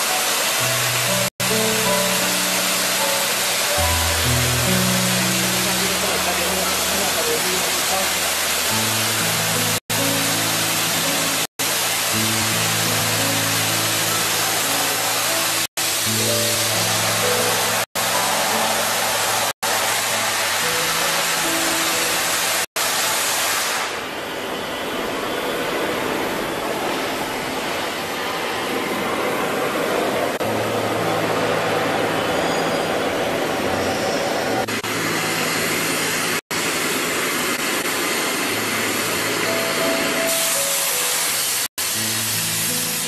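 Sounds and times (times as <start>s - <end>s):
cutting torch hissing through steel: 0.0s - 30.5s, 32.3s - 43.0s.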